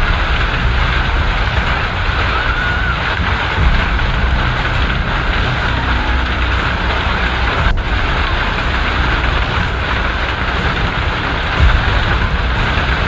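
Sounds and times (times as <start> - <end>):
heavy rain downpour: 0.0 - 13.0
wind: 0.0 - 13.0
wind buffeting microphone: 0.0 - 13.0.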